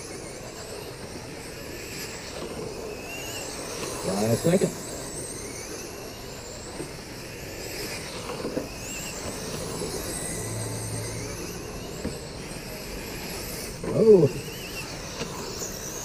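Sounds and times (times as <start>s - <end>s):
rc car motors whining: 0.0s - 16.0s.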